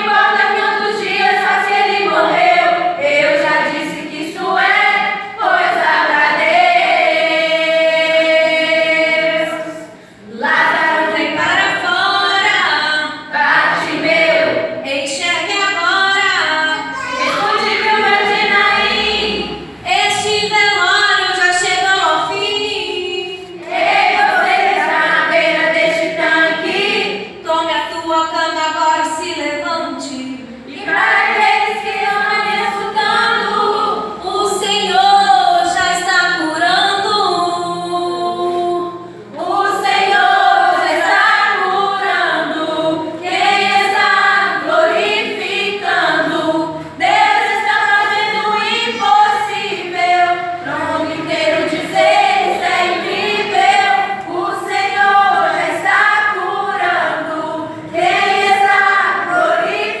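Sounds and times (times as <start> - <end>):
group singing praise song: 0.0 - 60.0.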